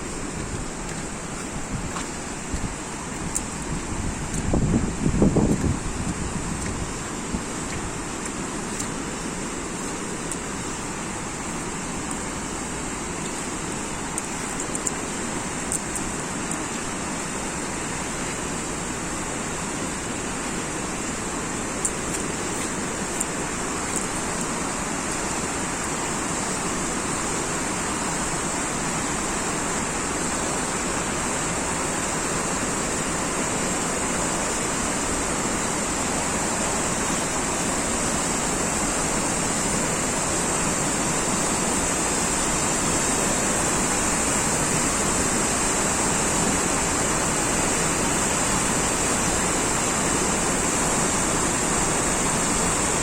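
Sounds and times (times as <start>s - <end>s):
rushing water: 0.0s - 53.0s
high hiss: 8.6s - 53.0s.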